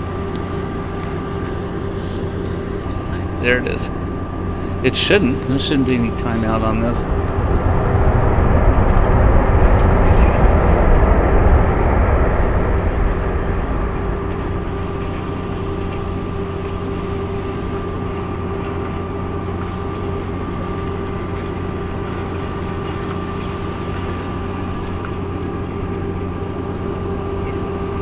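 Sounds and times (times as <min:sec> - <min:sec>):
jet engines running with whine: 0:00.0 - 0:28.0.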